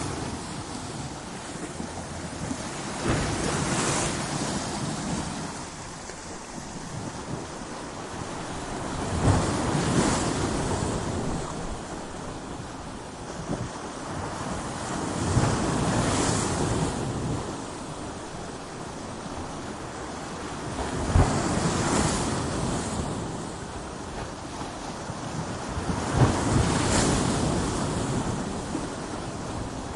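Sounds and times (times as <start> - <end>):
steady surf: 0.0 - 29.9
waves crashing on rocks: 0.0 - 29.9.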